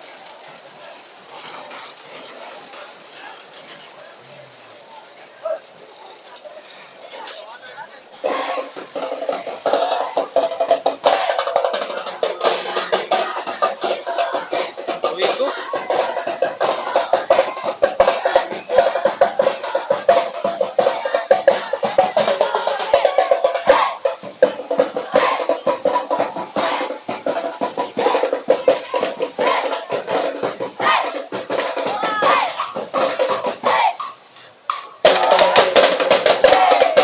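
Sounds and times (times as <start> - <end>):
drums and percussion: 0.0 - 37.0.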